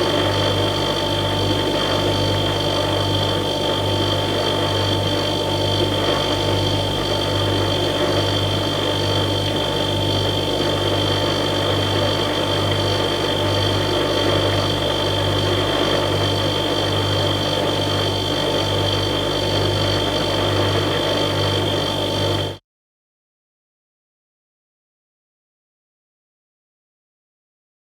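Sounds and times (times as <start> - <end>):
refrigerator compressor humming: 0.0 - 22.6.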